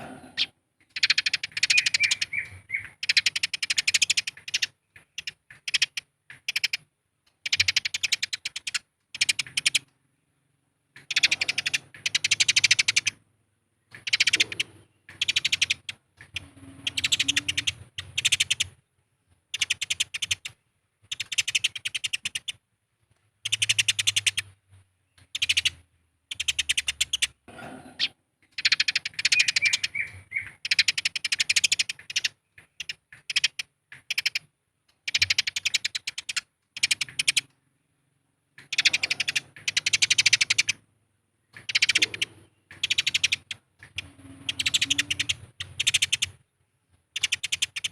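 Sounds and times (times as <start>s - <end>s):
sparrows chattering chirps: 0.0s - 13.2s, 13.8s - 18.8s, 19.5s - 22.6s, 23.4s - 46.5s, 47.1s - 47.9s.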